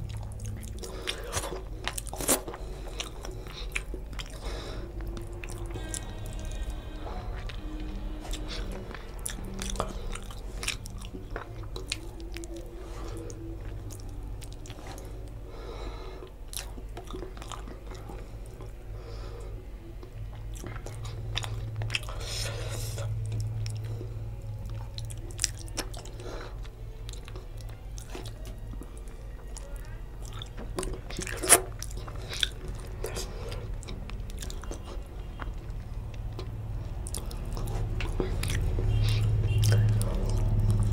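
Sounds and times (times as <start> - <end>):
person chewing food: 0.0 - 40.9
steady low hum: 0.0 - 40.9.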